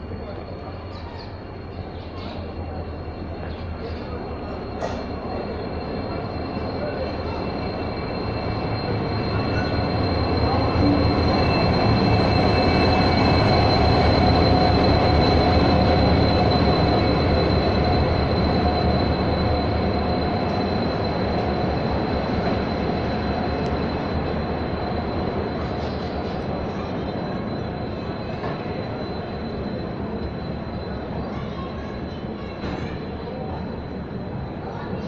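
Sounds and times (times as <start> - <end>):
high-pitched squeal: 0.0 - 35.0
train wheels rumbling: 0.0 - 35.0.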